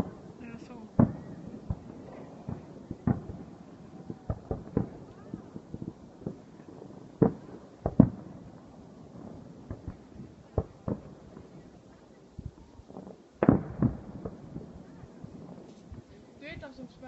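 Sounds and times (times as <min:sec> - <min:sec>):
firework shells bursting: 0:00.0 - 0:16.6.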